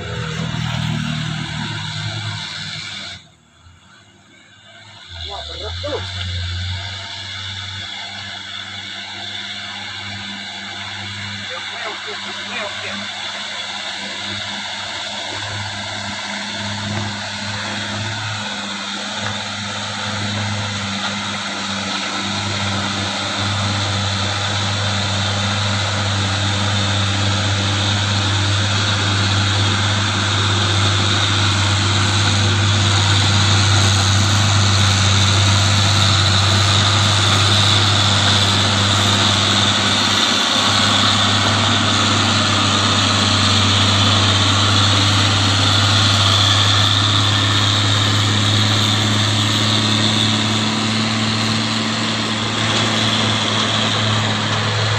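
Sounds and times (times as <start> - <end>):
truck diesel engine under load: 0.0 - 54.9.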